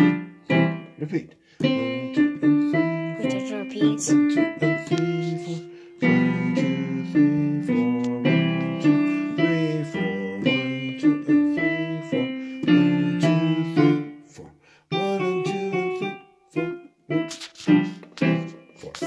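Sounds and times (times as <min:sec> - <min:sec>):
digital piano notes and chords: 0:00.0 - 0:14.3, 0:14.9 - 0:19.0.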